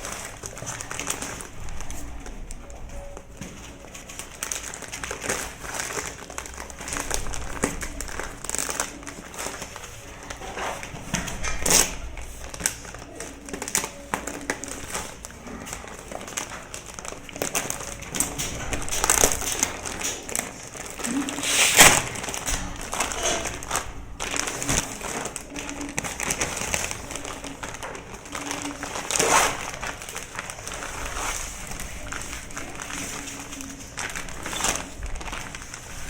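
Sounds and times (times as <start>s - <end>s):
cardboard rustling and scraping: 0.0s - 36.0s.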